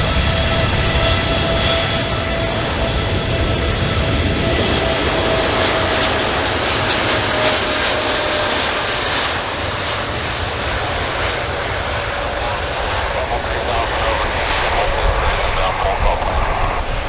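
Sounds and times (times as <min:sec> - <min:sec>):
jet engine whine: 0:00.0 - 0:17.0
jet engines roaring: 0:00.0 - 0:17.0.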